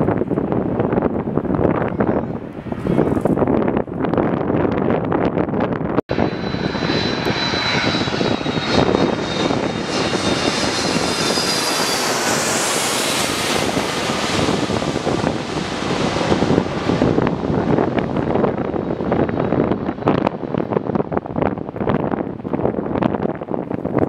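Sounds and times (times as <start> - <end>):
jet engine roar with whine: 0.0 - 24.0.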